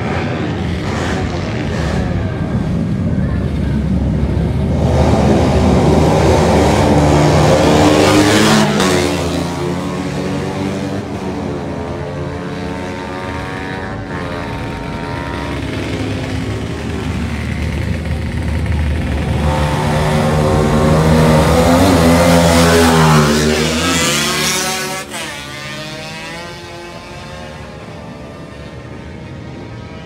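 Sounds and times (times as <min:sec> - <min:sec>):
racing motorcycle engine revving: 0:00.0 - 0:30.0.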